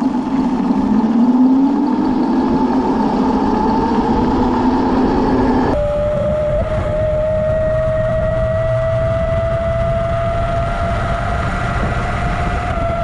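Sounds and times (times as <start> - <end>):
electric motor whining: 0.0 - 13.0
wind noise: 0.0 - 13.0.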